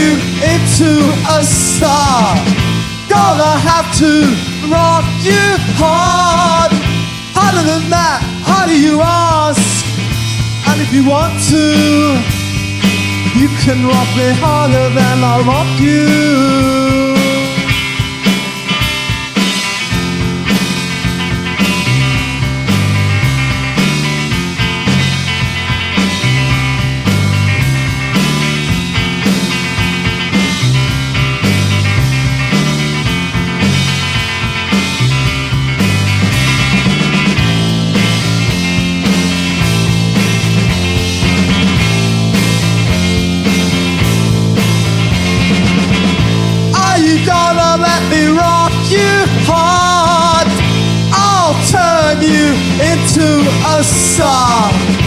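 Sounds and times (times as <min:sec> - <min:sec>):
instrumental rock band: 0:00.0 - 0:55.0.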